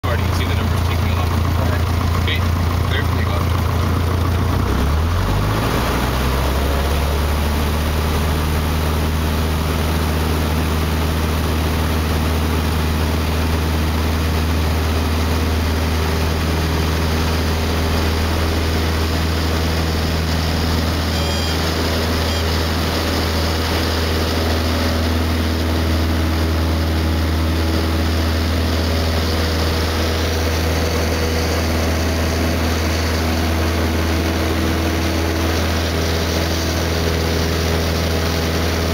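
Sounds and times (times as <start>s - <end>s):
small plane engine and propeller: 0.0s - 38.9s.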